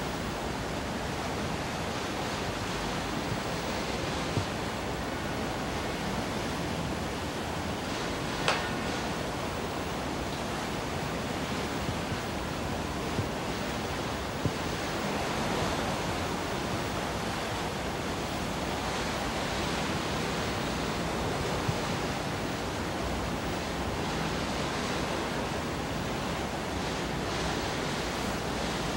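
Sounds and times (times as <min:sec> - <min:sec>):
sea water rushing along hull: 0:00.0 - 0:28.9.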